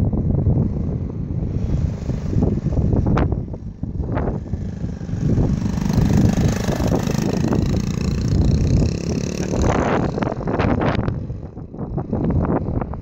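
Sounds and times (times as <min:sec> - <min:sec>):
minibike engine passing by: 0:00.1 - 0:13.0.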